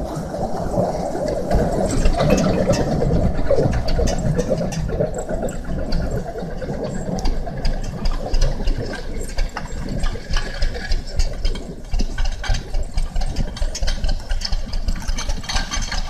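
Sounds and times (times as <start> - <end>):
diesel tractor engine running roughly: 0.0 - 16.0.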